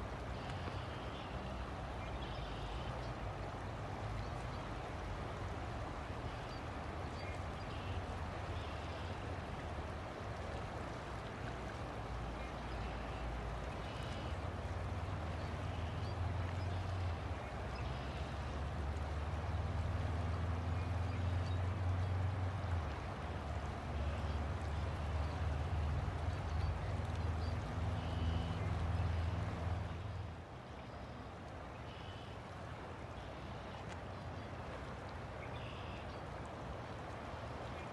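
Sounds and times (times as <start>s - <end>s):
river water flowing: 0.0s - 37.9s.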